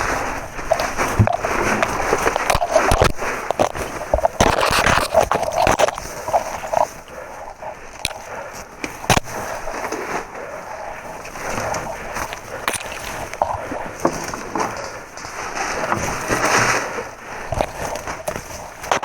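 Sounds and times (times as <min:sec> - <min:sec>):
rustling: 0:00.0 - 0:19.0.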